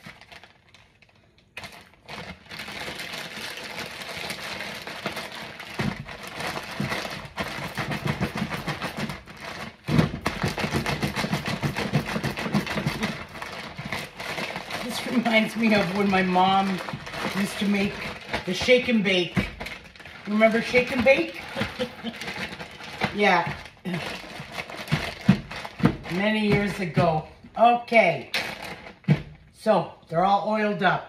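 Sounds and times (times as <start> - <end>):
plastic bag crinkling: 0.0 - 27.4, 28.3 - 29.5.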